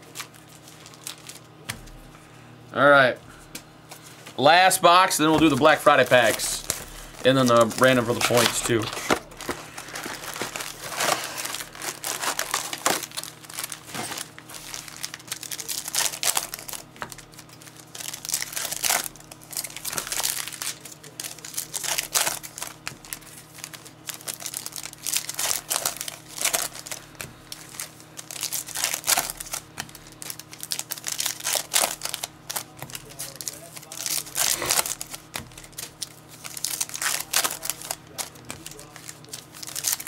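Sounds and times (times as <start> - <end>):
plastic wrapping crinkling and tearing: 0.0 - 1.8, 3.9 - 40.0.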